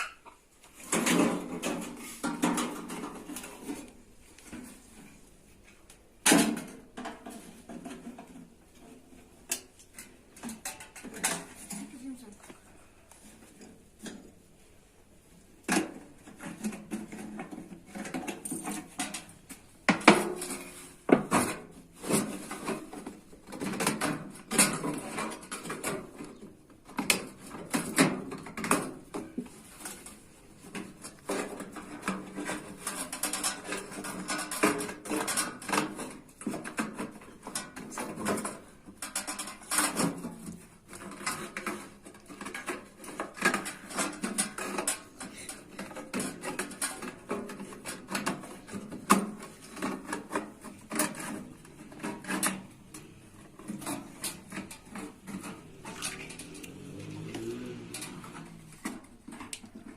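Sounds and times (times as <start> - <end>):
metal clattering and scraping: 0.7 - 5.3, 15.6 - 59.9.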